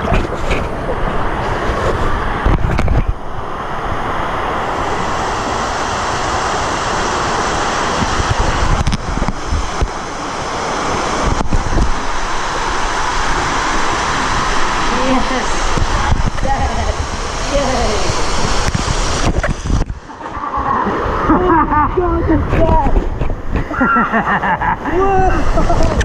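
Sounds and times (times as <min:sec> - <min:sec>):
wind buffeting microphone: 0:00.0 - 0:24.0, 0:24.9 - 0:26.0
water rushing: 0:00.0 - 0:26.0.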